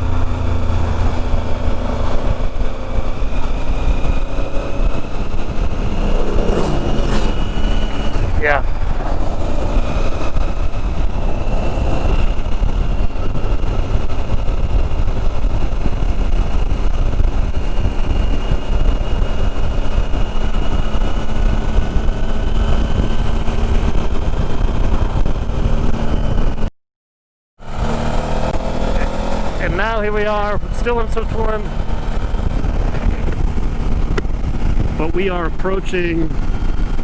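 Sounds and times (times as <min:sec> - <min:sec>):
motorcycle engine humming: 0:00.0 - 0:26.7, 0:27.6 - 0:37.0
wind rush on microphone: 0:00.0 - 0:26.7, 0:27.7 - 0:37.0.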